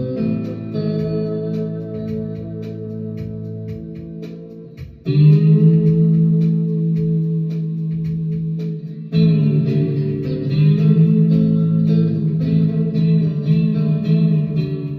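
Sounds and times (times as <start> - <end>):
slide electric guitar: 0.0 - 14.9.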